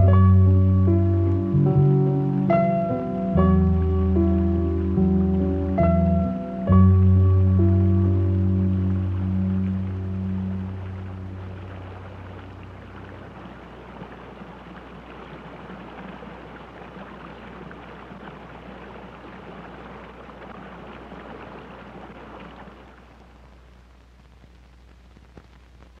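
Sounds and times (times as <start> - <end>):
stream water babbling: 0.0 - 23.9
low steady hum: 0.0 - 26.0.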